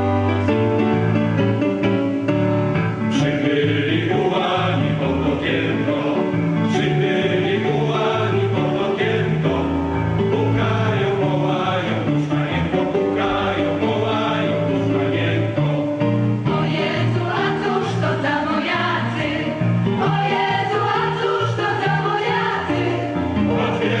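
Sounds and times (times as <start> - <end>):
guitar accompaniment: 0.0 - 24.0
group singing: 3.1 - 24.0.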